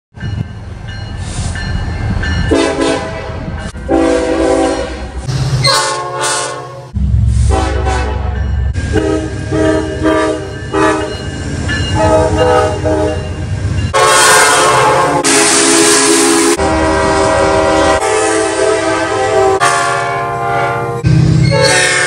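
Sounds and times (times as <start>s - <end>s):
locomotive rumble: 0.1s - 22.0s
locomotive air horn blasts: 2.5s - 11.2s, 12.0s - 13.3s, 13.9s - 22.0s.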